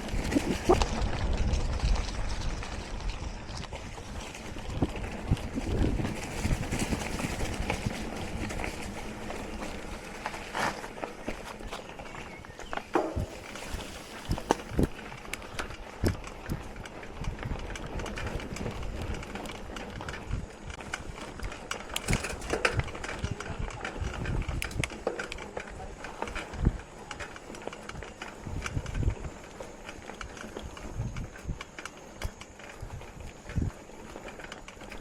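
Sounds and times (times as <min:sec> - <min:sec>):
bike knocking and rattling: 0:00.0 - 0:35.0.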